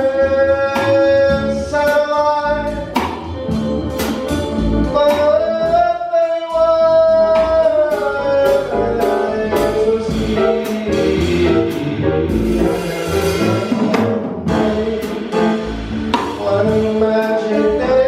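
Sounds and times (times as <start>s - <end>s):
jazz singer with instruments: 0.0s - 18.0s.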